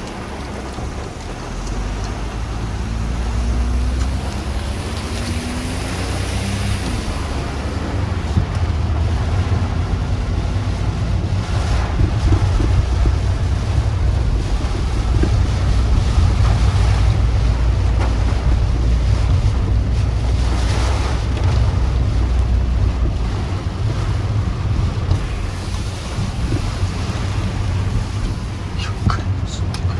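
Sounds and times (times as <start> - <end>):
heavy rain: 0.0 - 29.9
strong wind: 0.0 - 29.9
wind buffeting microphone: 0.0 - 29.9.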